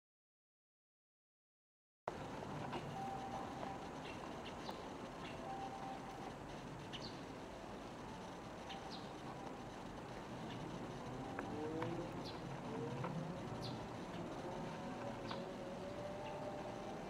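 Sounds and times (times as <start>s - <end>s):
distant vehicle engine: 2.1s - 17.0s
small birds chirping: 2.6s - 17.0s.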